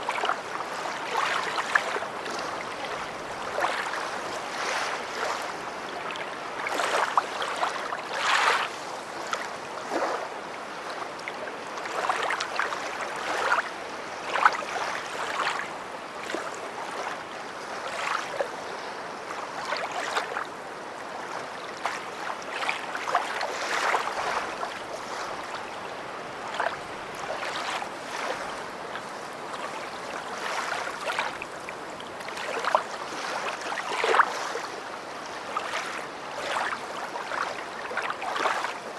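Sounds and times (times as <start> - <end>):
lake waves lapping and splashing: 0.0 - 38.9.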